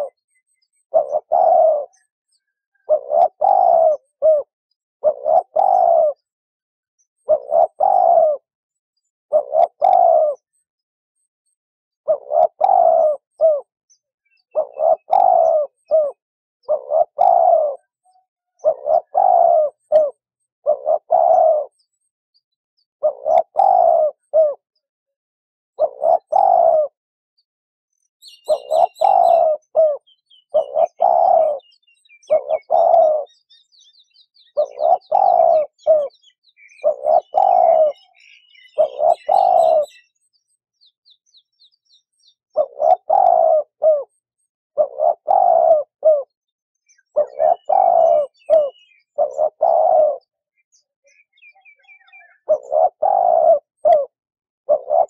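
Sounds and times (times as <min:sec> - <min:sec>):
dove cooing: 0:00.0 - 0:06.4, 0:07.2 - 0:10.6, 0:12.0 - 0:13.7, 0:14.3 - 0:22.1, 0:23.0 - 0:24.8, 0:25.7 - 0:27.0, 0:28.2 - 0:40.2, 0:42.5 - 0:55.0
small bird chirping: 0:00.0 - 0:06.4, 0:07.0 - 0:24.6, 0:27.9 - 0:55.0.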